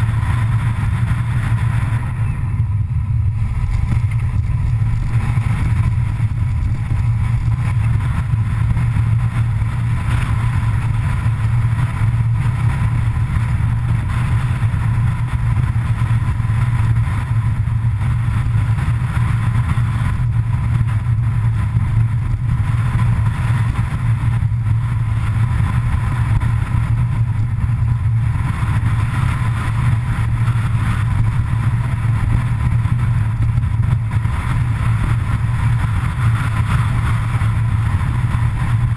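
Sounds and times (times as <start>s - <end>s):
vehicle driving with low rumble: 0.0s - 38.9s.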